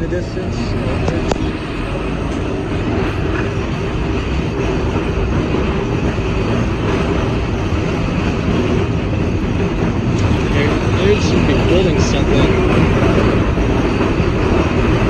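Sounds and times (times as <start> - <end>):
streetcar wheels on rails: 0.0 - 15.0.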